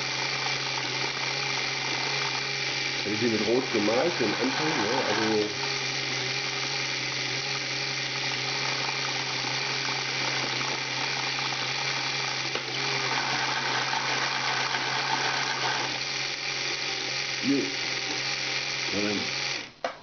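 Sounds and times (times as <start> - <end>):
ratcheting gear whine: 0.0 - 19.7
small electric motors whirring: 0.0 - 19.8.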